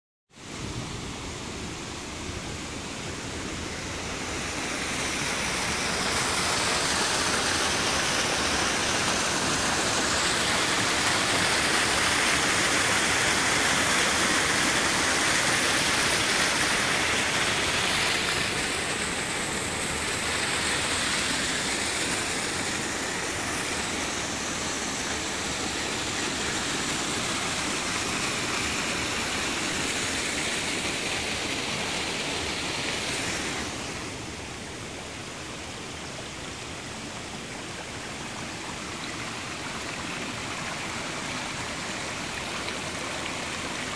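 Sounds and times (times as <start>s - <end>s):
waterfall rushing: 0.4s - 43.9s.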